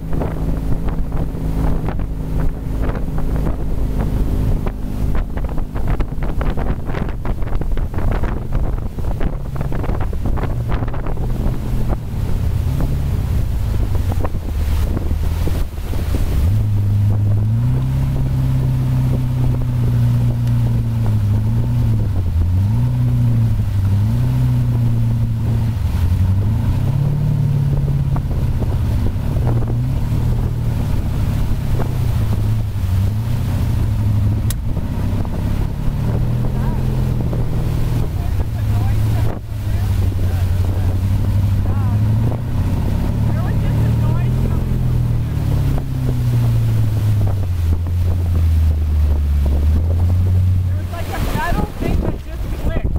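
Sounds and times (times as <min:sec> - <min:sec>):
boat engine running: 0:00.0 - 0:52.9
water rushing: 0:00.0 - 0:52.9
wind buffeting microphone: 0:00.0 - 0:52.9.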